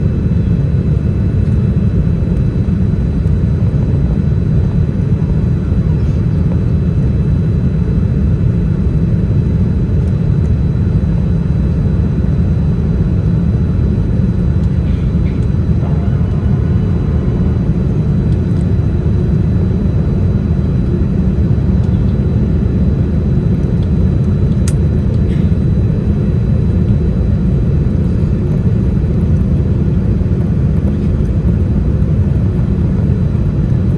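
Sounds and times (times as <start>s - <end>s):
jet airliner rumble in flight: 0.0s - 33.9s.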